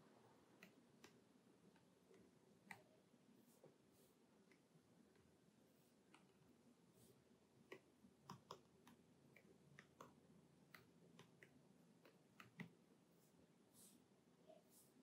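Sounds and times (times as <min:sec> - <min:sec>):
fingertips tapping touchscreen: 0:00.6 - 0:14.9.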